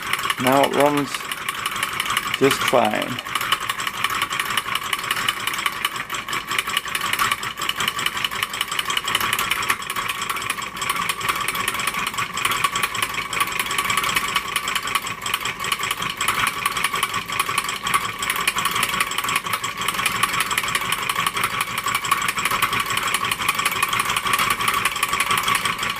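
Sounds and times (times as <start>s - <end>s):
hot air engine clattering: 0.0s - 25.9s.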